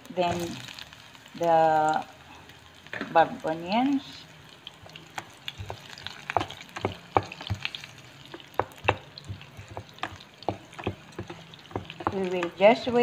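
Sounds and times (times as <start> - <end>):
light sizzle of frying: 0.0 - 13.0.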